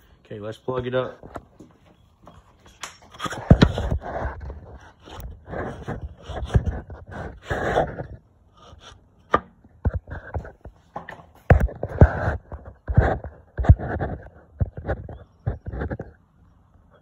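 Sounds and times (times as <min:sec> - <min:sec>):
handling knocks scrapes and rustles: 0:01.0 - 0:08.9, 0:09.8 - 0:16.1.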